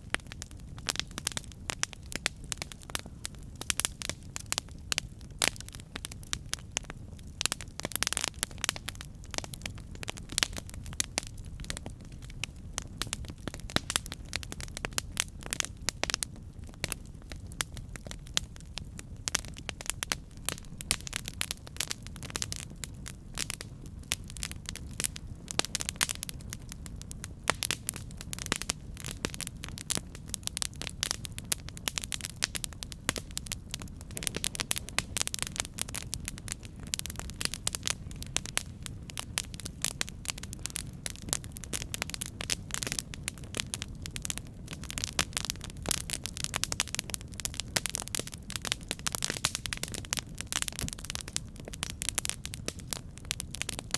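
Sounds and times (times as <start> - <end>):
low rumble of burning fire: 0.0 - 53.9
campfire pops and snaps: 0.1 - 53.9.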